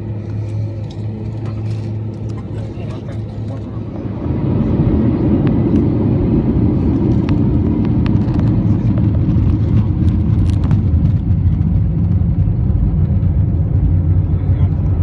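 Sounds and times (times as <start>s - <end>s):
airliner engine rumble: 0.0s - 15.0s.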